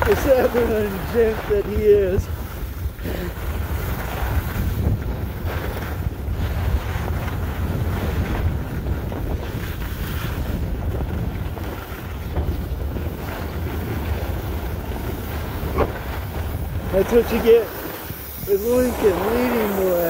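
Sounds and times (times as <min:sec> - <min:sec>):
skis sliding over snow: 0:00.0 - 0:20.0
wind buffeting microphone: 0:00.0 - 0:20.0.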